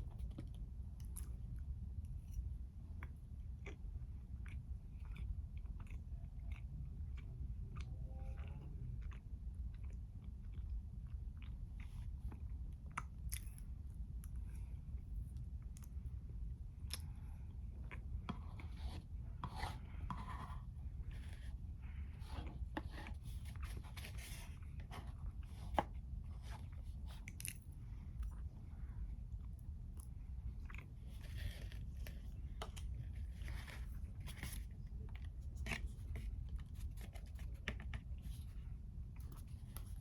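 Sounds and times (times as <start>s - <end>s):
chewing and wet mouth sounds: 0.0s - 40.0s
steady low hum: 0.0s - 40.0s.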